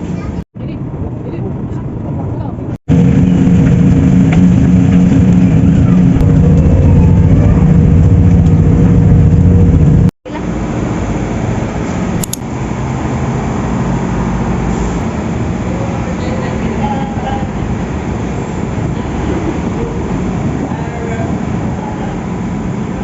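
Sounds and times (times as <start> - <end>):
road rumble: 0.0 - 23.0
vehicle engine droning: 0.9 - 23.0.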